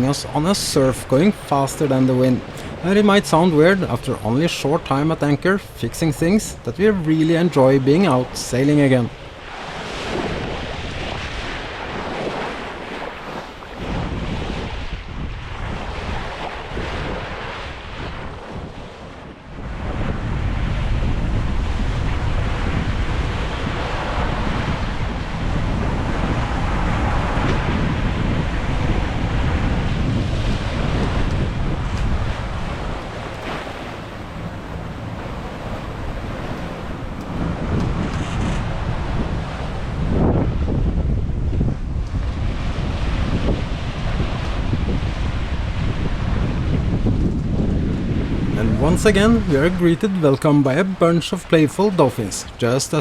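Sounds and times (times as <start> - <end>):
wind and breaking sea: 0.0 - 53.0
wind buffeting microphone: 0.0 - 53.0.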